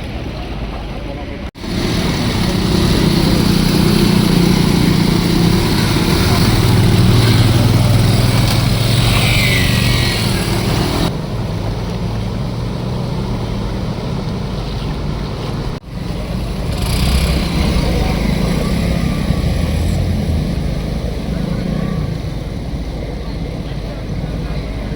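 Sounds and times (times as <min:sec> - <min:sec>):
low engine hum: 0:00.0 - 0:24.9
water rushing and washing: 0:00.0 - 0:24.9.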